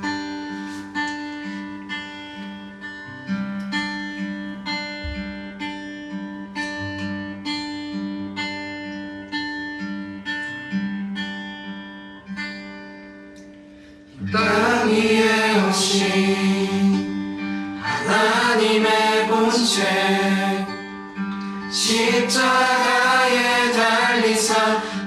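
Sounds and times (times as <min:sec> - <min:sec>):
acoustic guitar chords: 0:00.0 - 0:25.0.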